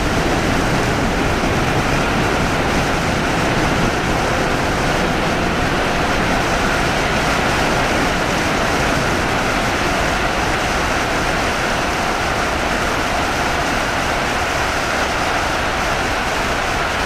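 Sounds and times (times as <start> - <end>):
freight train wagons rolling by: 0.0 - 17.0.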